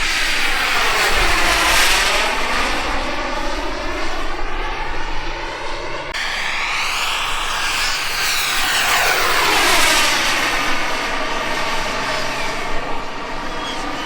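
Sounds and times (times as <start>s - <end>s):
jet turbine whine passing: 0.0s - 14.0s.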